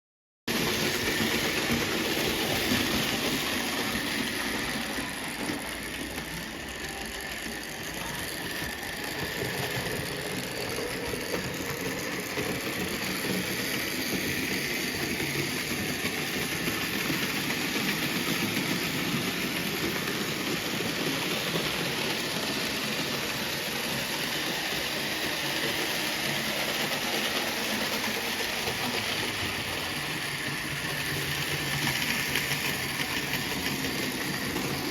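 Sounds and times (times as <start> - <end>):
wheels rattling over metal track: 0.5 - 34.9.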